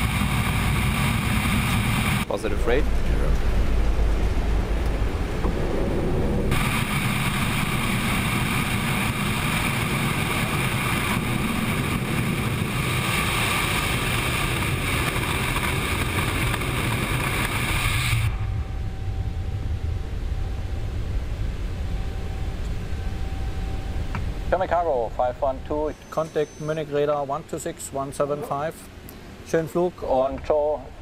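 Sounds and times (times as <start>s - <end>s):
rushing airflow: 0.0s - 26.2s
jet engines roaring: 0.0s - 31.0s.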